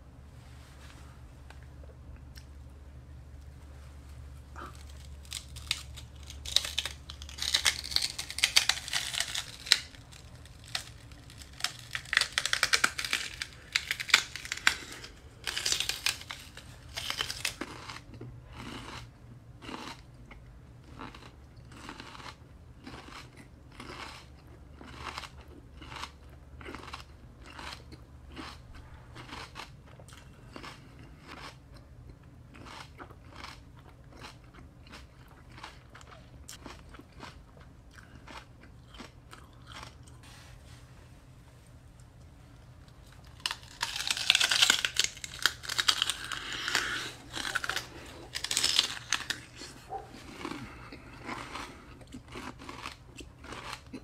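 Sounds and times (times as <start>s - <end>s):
celery crunching: 0.6s - 19.0s, 21.0s - 31.6s, 32.5s - 54.0s
rhythmic chewing: 1.4s - 40.2s, 41.9s - 54.0s.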